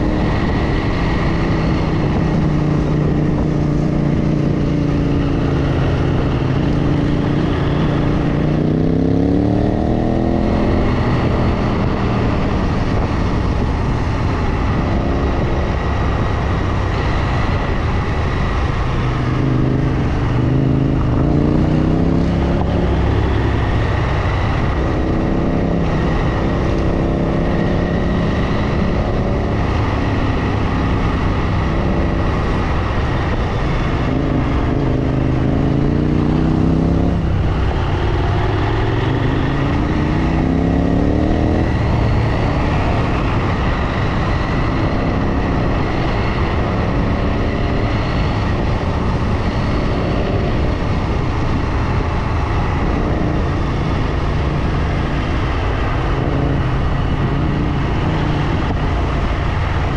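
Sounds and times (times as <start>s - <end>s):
motorcycle engine revving: 0.0s - 59.9s
steady rushing noise: 0.0s - 59.9s.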